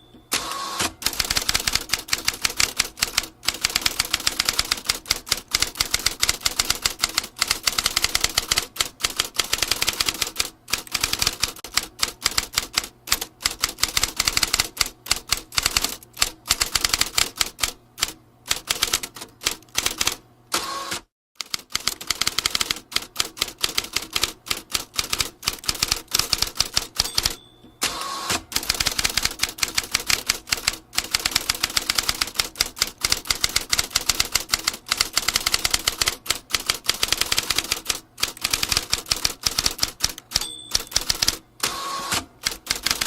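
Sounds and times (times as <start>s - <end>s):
typewriter typing: 0.3s - 43.0s.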